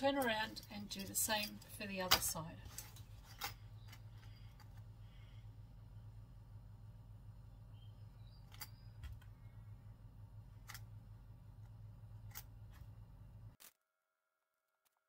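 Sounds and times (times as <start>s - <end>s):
low steady hum: 0.0s - 14.3s.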